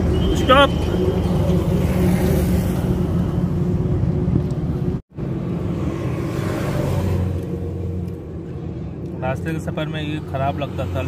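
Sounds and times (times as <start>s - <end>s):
highway rumble: 0.0s - 11.0s.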